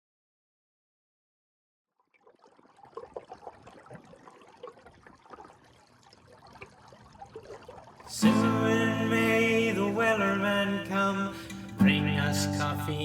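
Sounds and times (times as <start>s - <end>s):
lake water lapping: 2.1s - 12.7s.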